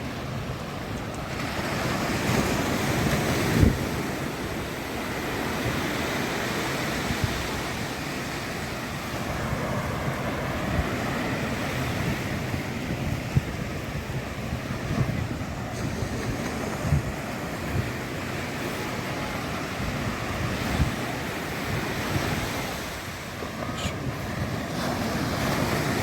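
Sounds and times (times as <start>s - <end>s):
ocean surf washing onto beach: 0.0s - 26.0s
wind buffeting microphone: 0.0s - 26.0s.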